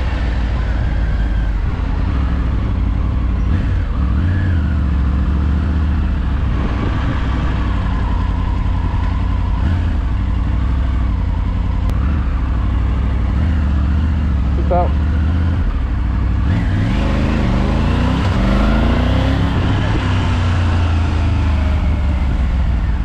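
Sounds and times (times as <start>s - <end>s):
motorcycle engine at low revs: 0.0s - 23.0s.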